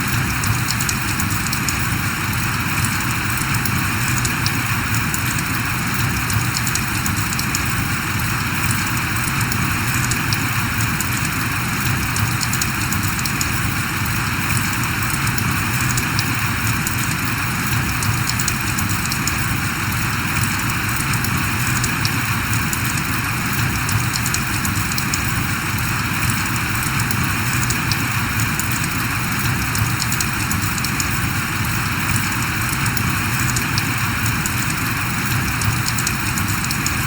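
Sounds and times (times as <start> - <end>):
rain pattering: 0.0 - 37.0.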